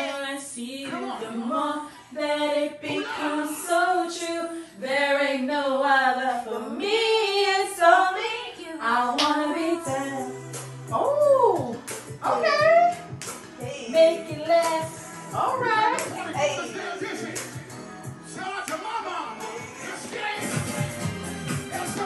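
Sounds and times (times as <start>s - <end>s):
women singing r and b song: 0.0s - 18.8s, 19.4s - 22.0s.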